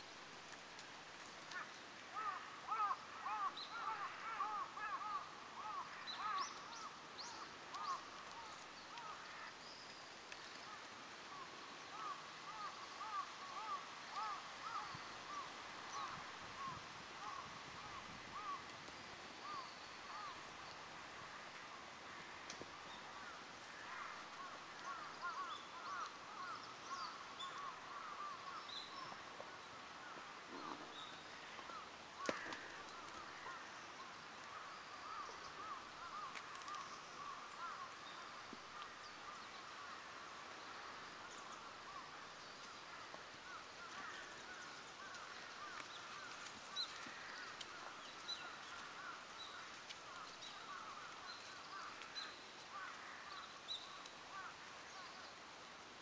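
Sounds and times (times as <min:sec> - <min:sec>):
flock of birds chattering: 0:00.6 - 0:55.4.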